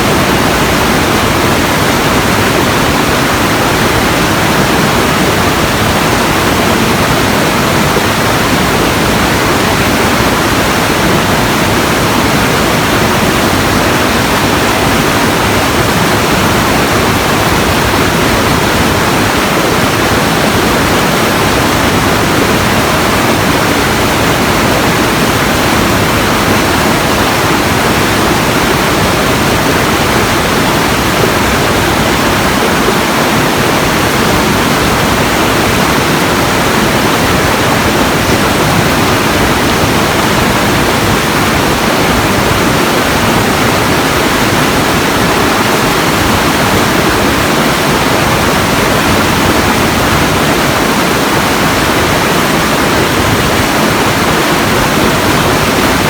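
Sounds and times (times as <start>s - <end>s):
steady loud rushing noise: 0.0s - 56.0s.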